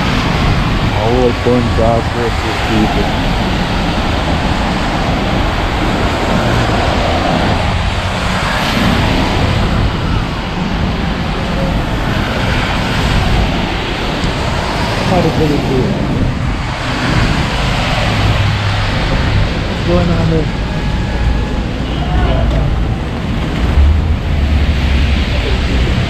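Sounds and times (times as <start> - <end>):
heavy low rumble: 0.0 - 26.0
passing traffic: 0.0 - 26.0.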